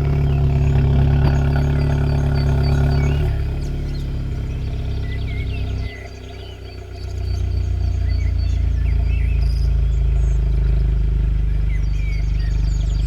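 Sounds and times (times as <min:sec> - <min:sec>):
car engine idling deep drone: 0:00.0 - 0:13.0.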